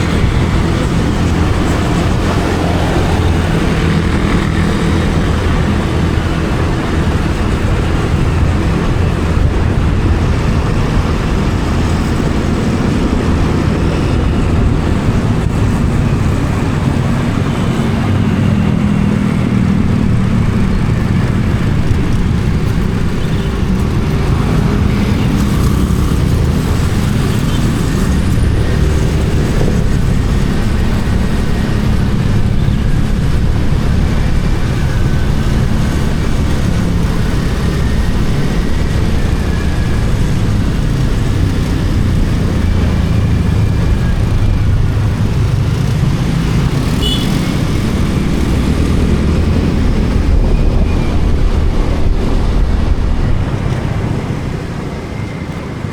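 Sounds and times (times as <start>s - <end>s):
motorcycle engine running: 0.0s - 54.7s
road rumble: 0.0s - 55.9s
wind on microphone: 0.0s - 55.9s.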